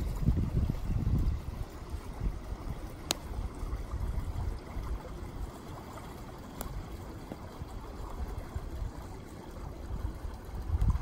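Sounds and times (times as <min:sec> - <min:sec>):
stream trickling and gurgling: 0:00.0 - 0:11.0.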